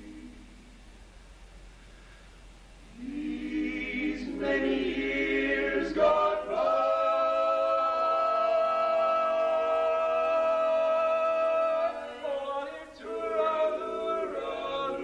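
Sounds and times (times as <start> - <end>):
male voices singing in harmony: 3.0 - 15.0.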